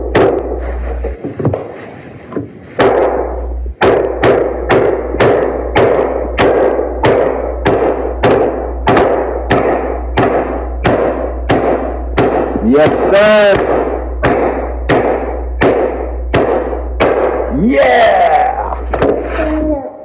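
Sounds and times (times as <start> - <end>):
hammer striking nail: 0.0 - 0.6, 2.3 - 17.5, 18.9 - 19.4.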